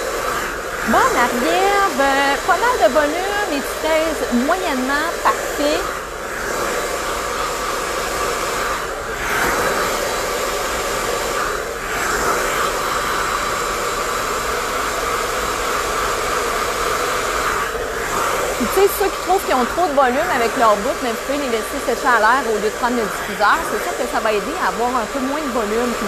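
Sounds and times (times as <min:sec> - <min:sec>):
hair dryer blowing: 0:00.0 - 0:26.0.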